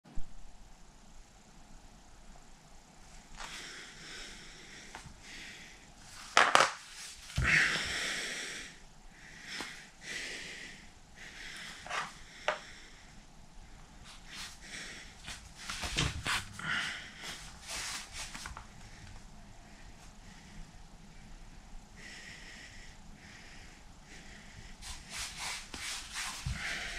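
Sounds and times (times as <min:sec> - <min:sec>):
man breathing hard through nose: 0:03.4 - 0:06.3, 0:07.0 - 0:26.9
sniffs and puffed breaths: 0:03.4 - 0:21.3, 0:22.0 - 0:26.9.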